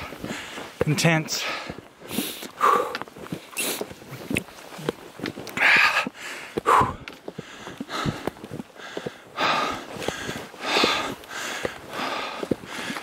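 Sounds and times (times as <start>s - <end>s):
footsteps crunching in snow: 0.0s - 13.0s
heavy breathing: 0.0s - 13.0s.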